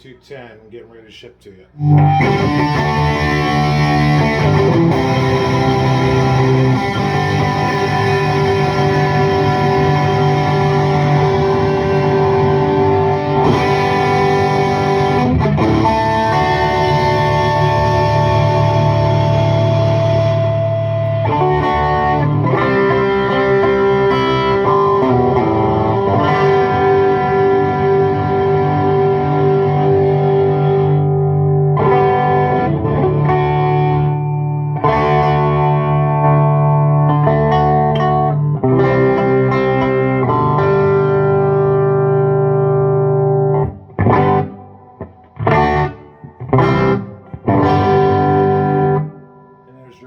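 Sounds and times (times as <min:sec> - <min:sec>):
electric guitar chords: 0:01.7 - 0:50.0
guitar slide: 0:01.8 - 0:49.3.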